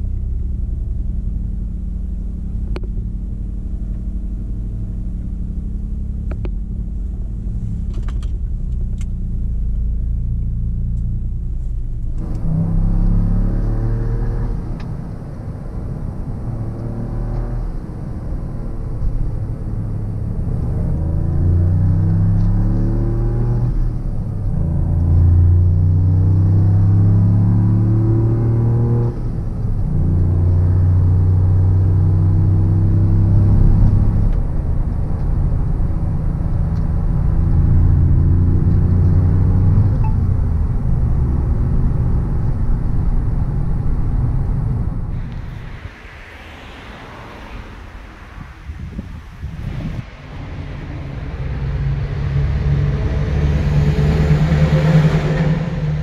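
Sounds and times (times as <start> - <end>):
car engine accelerating: 0.0 - 56.0
low road rumble: 0.0 - 56.0.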